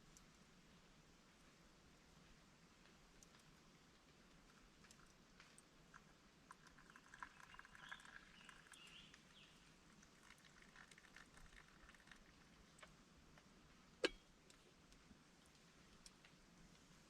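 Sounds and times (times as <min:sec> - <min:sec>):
faint ticks and crackles: 0:00.0 - 0:17.0.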